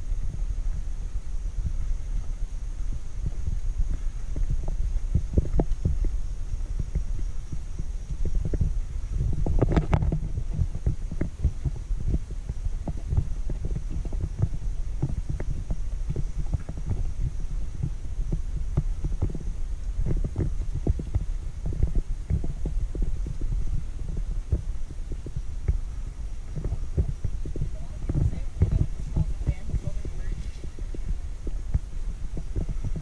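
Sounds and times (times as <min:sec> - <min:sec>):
handheld camera rumble: 0:00.0 - 0:33.0
footsteps on wooden boardwalk: 0:00.1 - 0:33.0.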